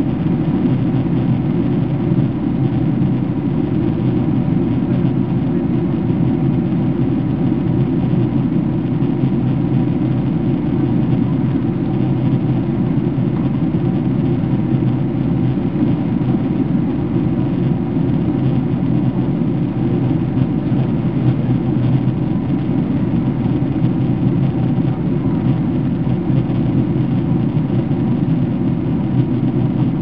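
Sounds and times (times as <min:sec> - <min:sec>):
airliner engines and airflow rumble: 0:00.0 - 0:30.0
faint steady hum: 0:00.0 - 0:30.0.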